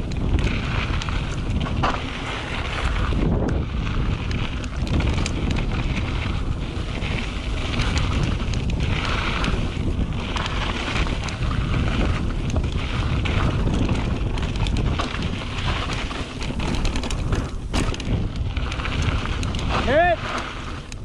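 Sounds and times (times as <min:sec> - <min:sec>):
bike clicking and rattling: 0:00.0 - 0:21.0
bike tyres rumbling on dirt: 0:00.0 - 0:21.0
wind buffeting microphone: 0:00.0 - 0:21.0.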